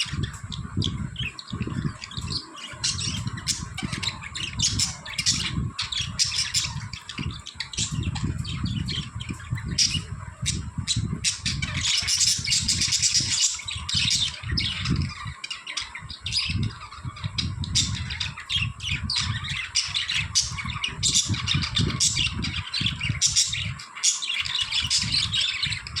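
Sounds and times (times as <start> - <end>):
budgies chirping and squawking: 0.0 - 26.0.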